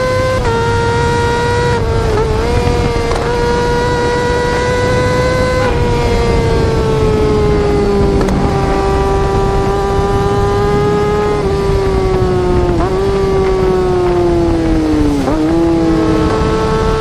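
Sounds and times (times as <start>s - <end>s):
motorcycle engine screaming at high revs: 0.0s - 17.0s
steady low rumble: 1.1s - 16.1s.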